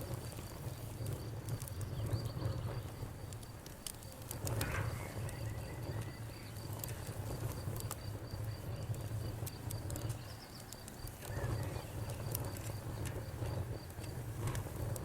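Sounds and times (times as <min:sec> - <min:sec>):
campfire crackling and popping: 0:00.0 - 0:15.0
cricket chirping: 0:00.2 - 0:14.1.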